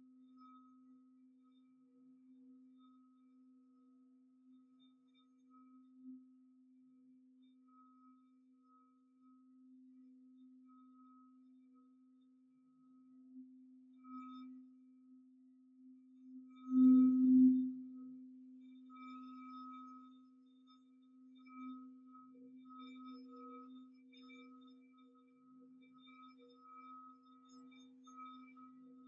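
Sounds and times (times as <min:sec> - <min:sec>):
singing bowl humming and ringing: 0:00.0 - 0:29.0.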